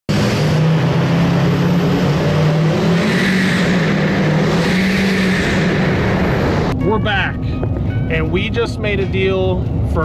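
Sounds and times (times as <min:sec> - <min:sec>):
car engine running: 0:00.1 - 0:10.0.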